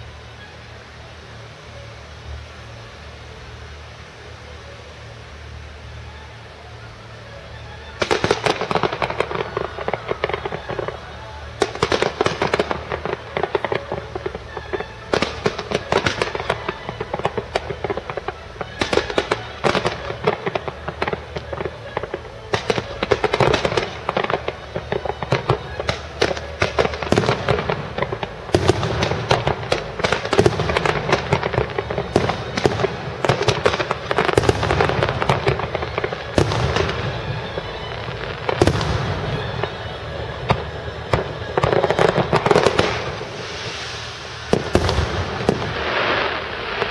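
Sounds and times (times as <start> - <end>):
fireworks bursts and crackling: 0.0 - 46.9.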